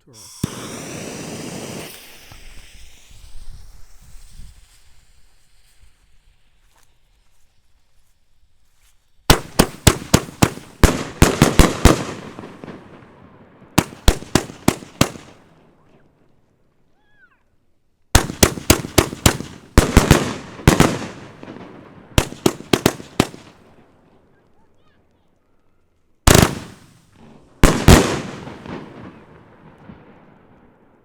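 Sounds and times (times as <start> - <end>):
fireworks reports and crackle: 0.0 - 8.1, 9.2 - 17.4, 18.2 - 31.0.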